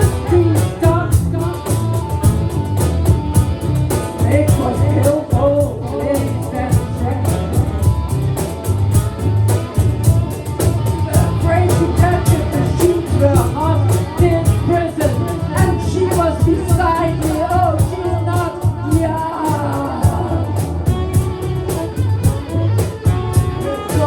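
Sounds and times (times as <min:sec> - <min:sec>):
drums steady beat: 0:00.0 - 0:24.0
pulsing bass line: 0:00.0 - 0:24.0
wavering lead melody: 0:00.0 - 0:24.0.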